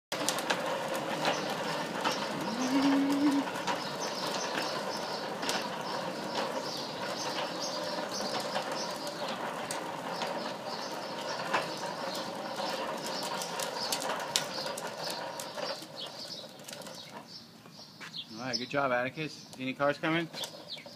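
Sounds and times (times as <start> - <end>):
plastic wheels rolling on concrete: 0.1 - 20.9.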